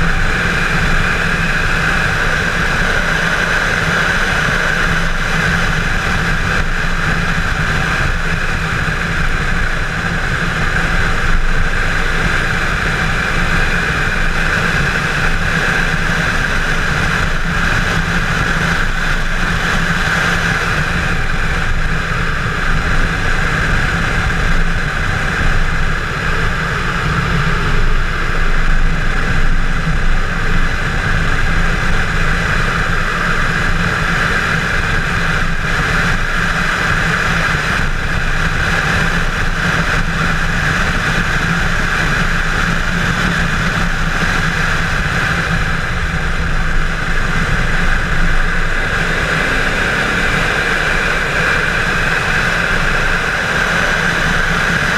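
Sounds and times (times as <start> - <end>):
car engine revving hard: 0.0 - 54.9
wind and tyre noise: 0.0 - 54.9.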